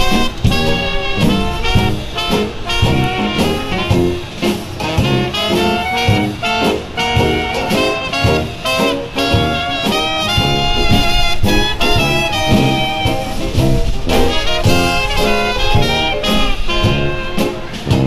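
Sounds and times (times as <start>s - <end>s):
swing jazz music with horns: 0.0s - 18.0s.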